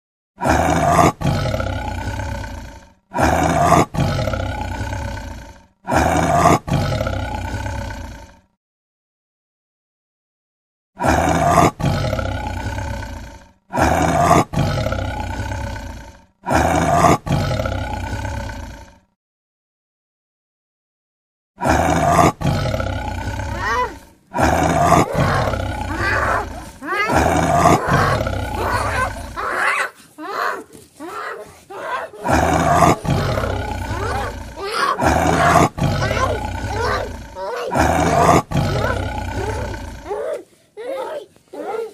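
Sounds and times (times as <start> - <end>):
lion roar: 0.4 - 8.5, 11.0 - 19.1, 21.6 - 41.9.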